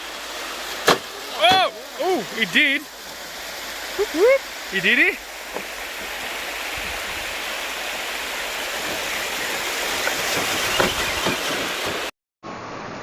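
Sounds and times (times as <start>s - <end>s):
stream water rushing: 0.0s - 12.1s.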